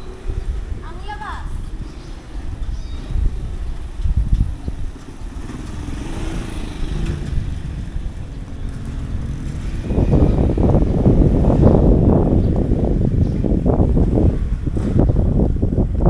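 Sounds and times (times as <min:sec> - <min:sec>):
motorcycle engine running: 0:01.7 - 0:16.0.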